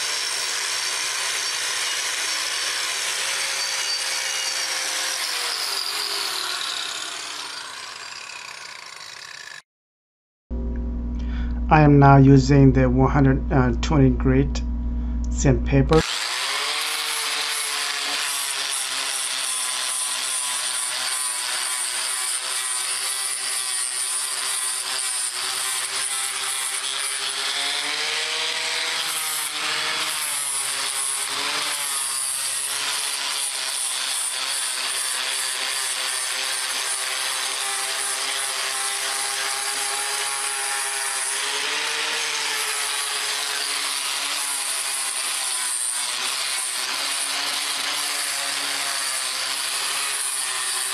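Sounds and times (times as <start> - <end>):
angle grinder sanding wood: 0.0 - 9.6, 16.0 - 50.9.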